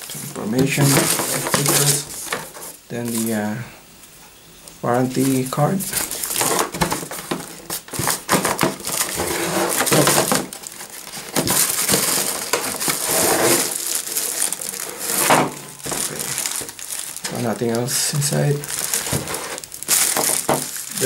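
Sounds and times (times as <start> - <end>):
paper and plastic rustling: 0.0 - 3.5, 4.9 - 21.0.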